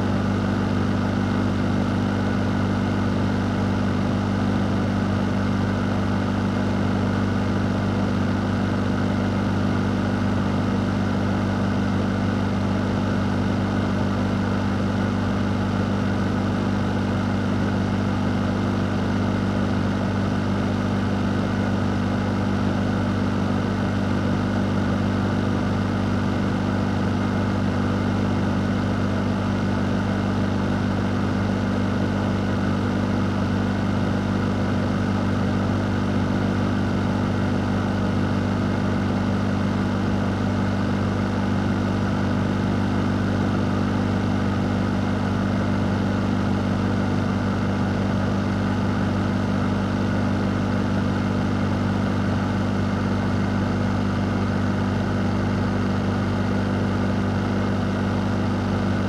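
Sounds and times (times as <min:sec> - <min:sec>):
fan running: 0:00.0 - 0:59.0.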